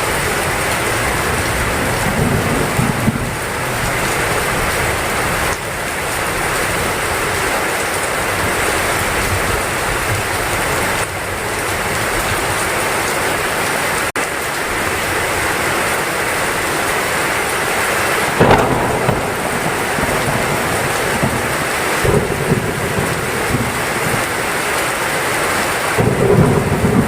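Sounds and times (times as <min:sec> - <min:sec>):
thunder rumbling: 0:00.0 - 0:12.8, 0:17.5 - 0:25.3, 0:26.0 - 0:27.0
heavy rain: 0:00.0 - 0:27.0.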